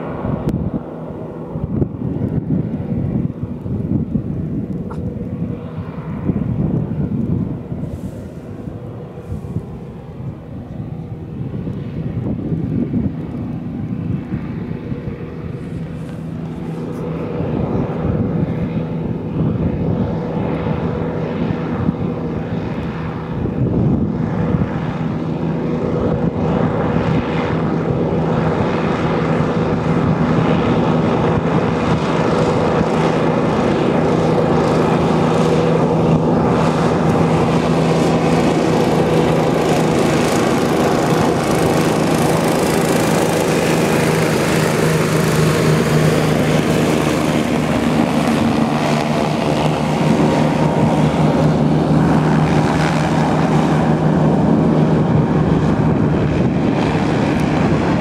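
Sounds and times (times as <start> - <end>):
hovercraft engine and propeller: 0.0 - 58.0.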